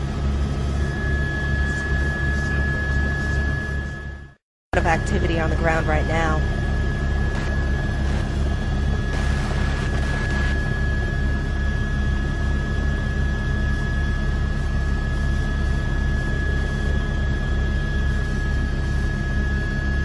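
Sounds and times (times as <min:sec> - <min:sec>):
helicopter rotor beat: 0:00.0 - 0:20.0
turbine high whine: 0:00.0 - 0:20.0.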